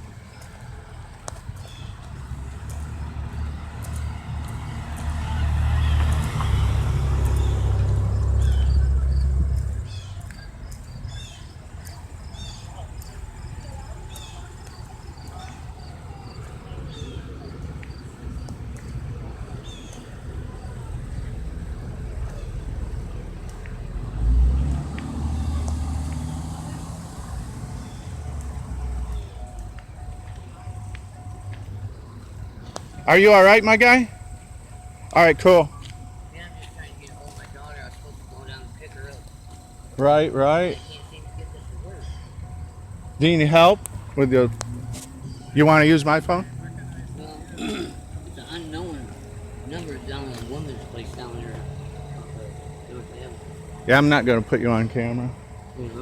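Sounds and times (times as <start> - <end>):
engine rumbling: 0.0 - 56.0
vehicle driving past: 1.9 - 10.2, 15.2 - 56.0.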